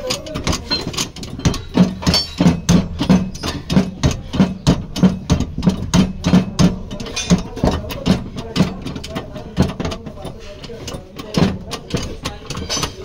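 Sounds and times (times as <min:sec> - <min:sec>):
hammer knocking on sheet metal: 0:00.0 - 0:13.0.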